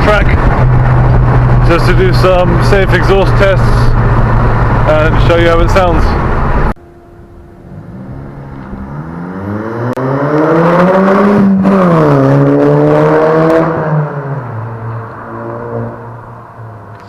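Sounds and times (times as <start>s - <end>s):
car engine accelerating hard: 0.0s - 6.8s, 7.6s - 17.0s.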